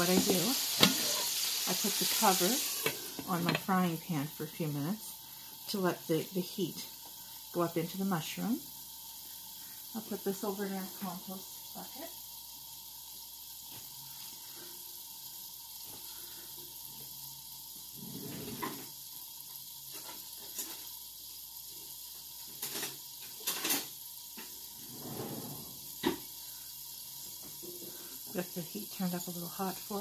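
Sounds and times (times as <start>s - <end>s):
mushroom sizzling in frying pan: 0.0s - 24.9s, 25.7s - 30.0s.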